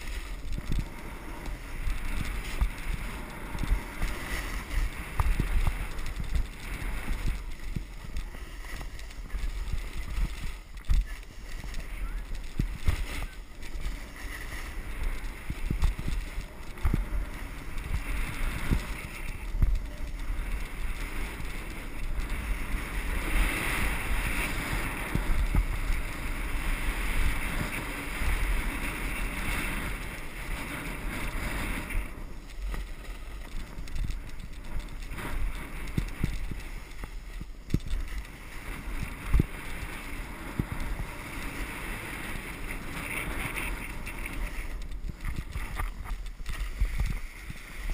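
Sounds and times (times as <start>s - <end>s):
skis scraping packed snow: 0.0s - 47.9s
wind buffeting microphone: 0.0s - 47.9s.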